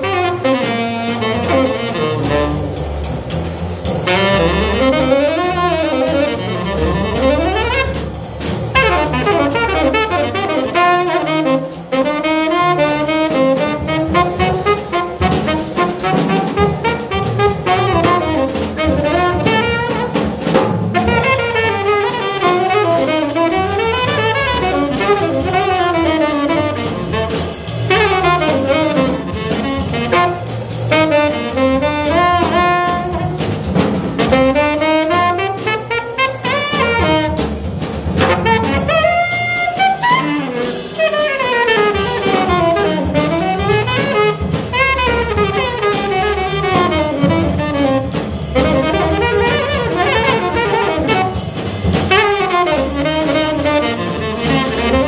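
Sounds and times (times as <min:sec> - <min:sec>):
drum kit with cymbals: 0:00.0 - 0:55.0
tenor saxophone soloing: 0:00.0 - 0:55.0
walking upright bass: 0:00.0 - 0:55.0.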